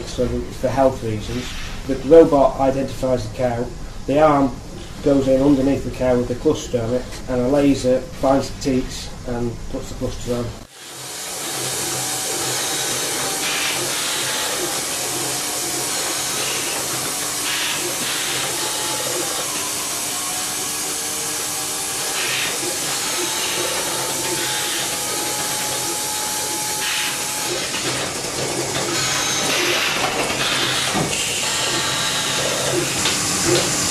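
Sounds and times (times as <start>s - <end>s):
milking machine hiss and hum: 0.0s - 33.9s.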